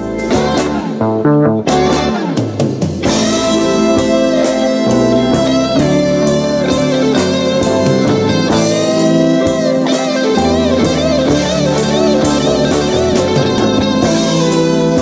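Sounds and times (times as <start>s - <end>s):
rock guitar instrumental: 0.0s - 15.0s.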